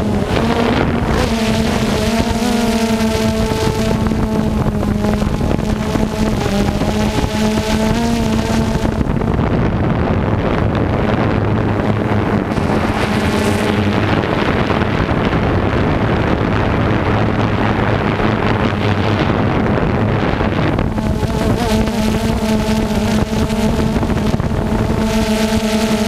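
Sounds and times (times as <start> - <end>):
farm machinery engine droning: 0.0 - 26.0
wind buffeting microphone: 0.0 - 26.0.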